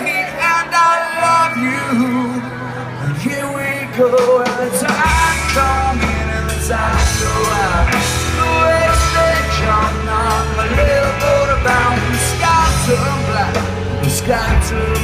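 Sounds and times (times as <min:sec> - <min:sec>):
rock band playing: 0:00.0 - 0:15.0
bass guitar notes: 0:01.4 - 0:15.0.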